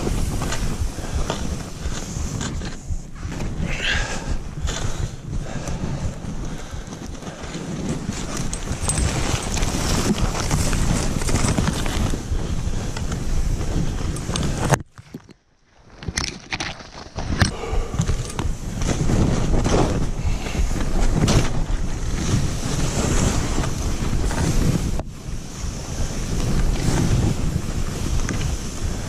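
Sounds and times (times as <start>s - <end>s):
skis running through snow: 0.0s - 14.8s, 16.8s - 29.0s
wind buffeting microphone: 0.0s - 15.0s, 17.1s - 29.0s.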